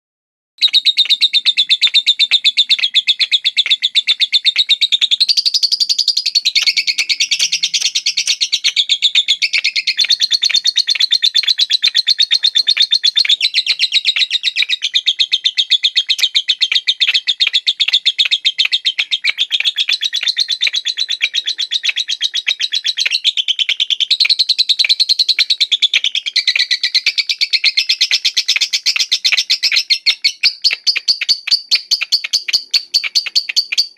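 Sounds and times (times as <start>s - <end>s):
lovebird chattering trill: 0.6s - 33.9s.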